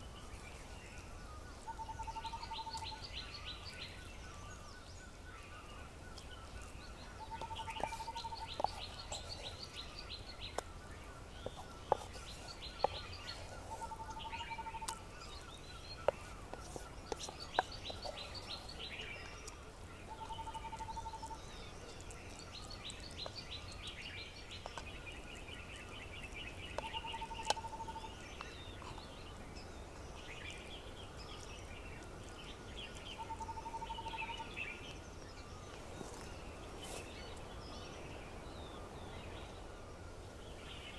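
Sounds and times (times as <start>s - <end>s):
birds singing trilled phrases: 0.0s - 39.2s.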